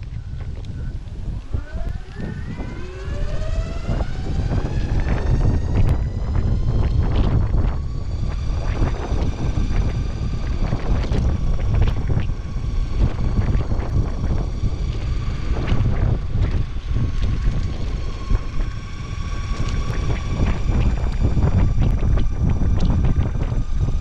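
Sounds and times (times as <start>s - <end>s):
electric motor whine: 0.0s - 24.0s
wind buffeting microphone: 0.0s - 24.0s
skateboard rolling on asphalt: 4.5s - 24.0s.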